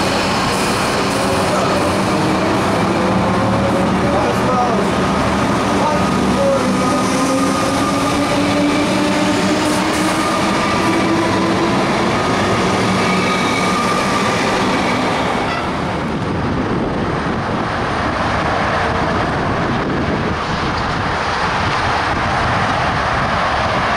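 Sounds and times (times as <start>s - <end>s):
rushing noise: 0.0s - 23.9s
wheels rumbling on rail: 0.0s - 23.9s.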